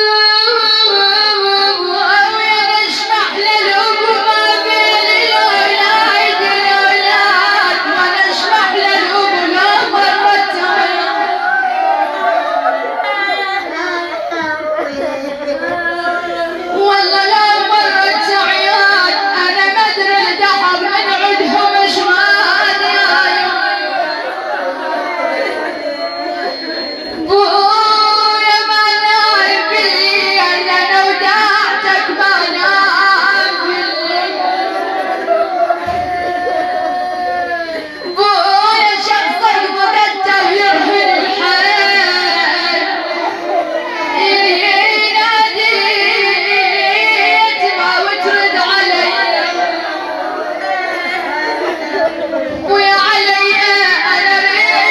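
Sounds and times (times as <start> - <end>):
woman chanting a lament: 0.0 - 54.9.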